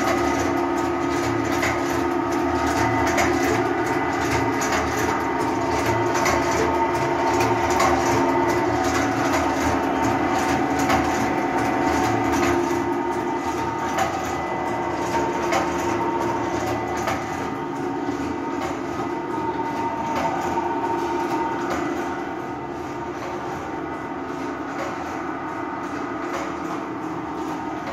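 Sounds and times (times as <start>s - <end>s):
machine hum: 0.0s - 27.9s
mechanical clicks and clacks: 0.0s - 27.9s.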